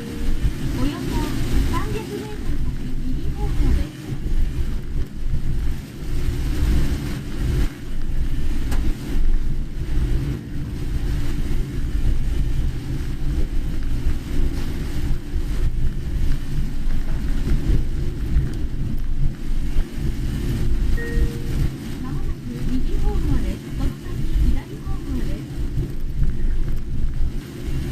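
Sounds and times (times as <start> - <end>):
car driving low rumble: 0.0 - 27.9
rain on car: 0.0 - 27.9
tyres on wet road: 0.0 - 27.9.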